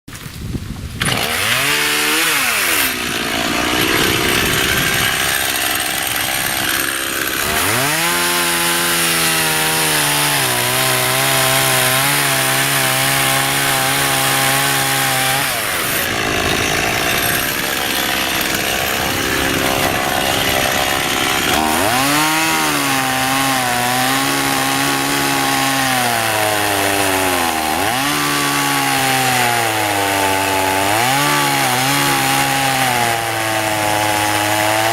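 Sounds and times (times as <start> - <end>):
chainsaw revving and cutting wood: 1.0 - 34.9.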